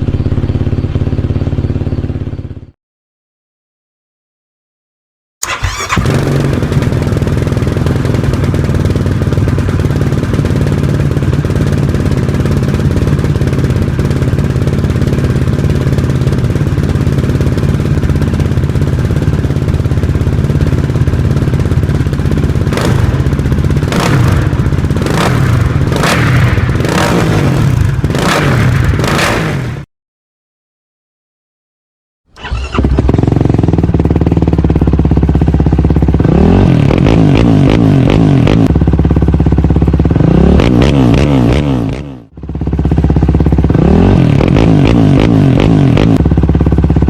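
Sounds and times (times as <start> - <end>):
quad bike engine idling and revving: 0.0 - 2.8, 5.4 - 29.9, 32.4 - 47.0.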